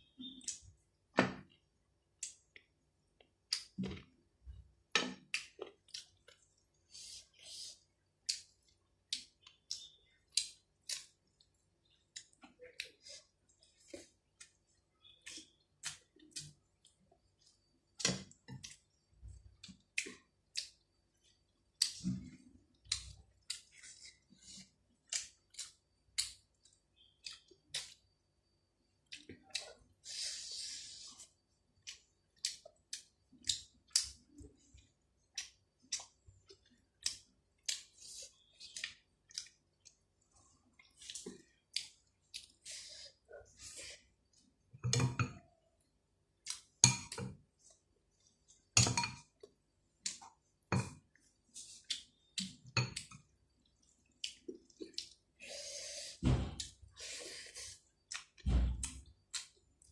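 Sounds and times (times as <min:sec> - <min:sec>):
person chewing with wet smacks: 0:01.5 - 0:04.1, 0:05.2 - 0:28.2, 0:29.0 - 0:30.0, 0:31.0 - 0:44.9, 0:46.3 - 0:55.5, 0:56.6 - 0:59.9.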